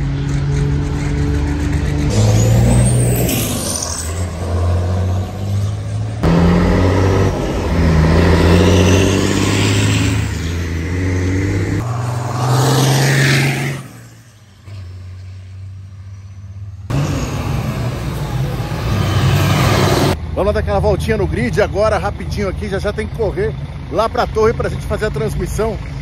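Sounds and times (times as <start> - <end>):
diesel truck engines passing: 0.0 - 26.0.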